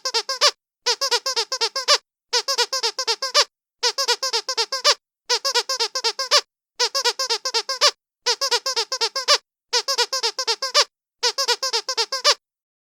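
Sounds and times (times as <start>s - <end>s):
squeaky toy quacking squeaks: 0.0s - 12.4s.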